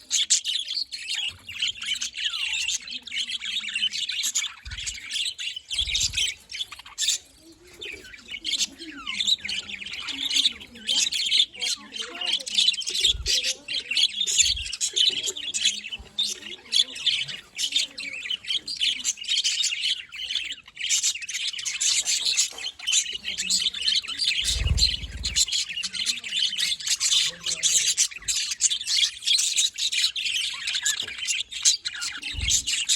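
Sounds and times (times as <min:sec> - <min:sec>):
budgerigars chattering and chirping: 0:00.0 - 0:32.9.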